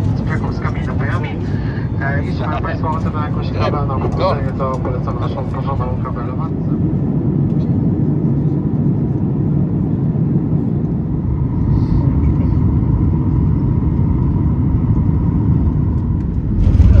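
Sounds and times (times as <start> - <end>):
airliner engines and airflow rumble: 0.0 - 17.0.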